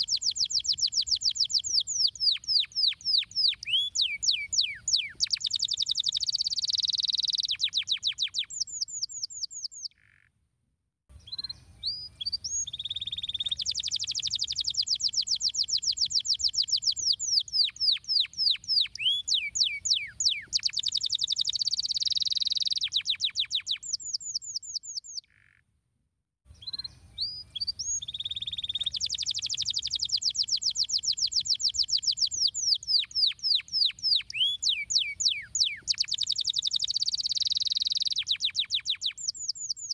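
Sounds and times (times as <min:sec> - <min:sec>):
canary singing: 0:00.0 - 0:10.0, 0:11.2 - 0:25.5, 0:26.6 - 0:39.9.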